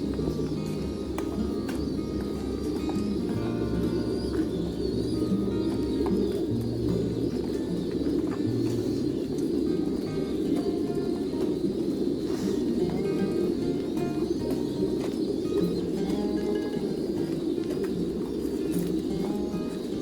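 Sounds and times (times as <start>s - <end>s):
music of held notes: 0.0s - 20.0s
pigeons cooing: 0.0s - 20.0s.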